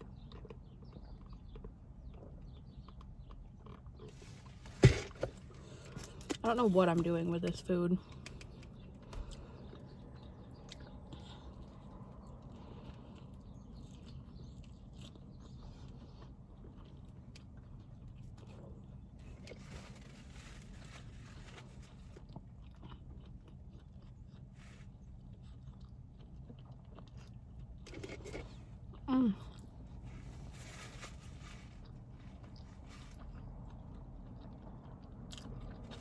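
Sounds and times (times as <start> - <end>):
chewing and crunching food: 0.0 - 36.0.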